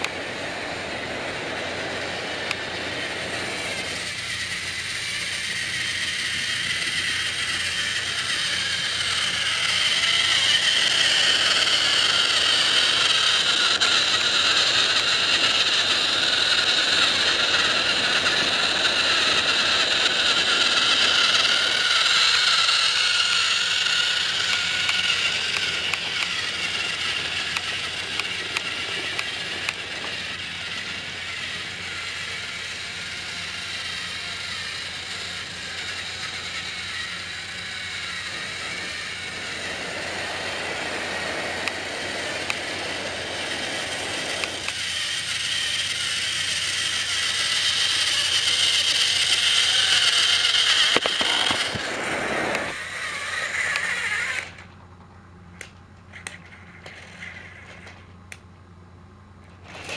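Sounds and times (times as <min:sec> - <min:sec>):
toy train motors whirring: 0:00.0 - 0:58.6, 0:59.3 - 0:59.9
small clicks of toy track: 0:02.4 - 0:58.5, 0:59.4 - 0:59.9.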